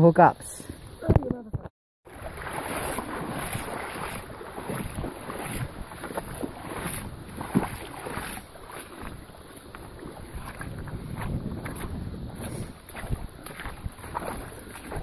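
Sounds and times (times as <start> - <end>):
rushing water: 2.1 - 15.0
wind buffeting microphone: 2.1 - 15.0.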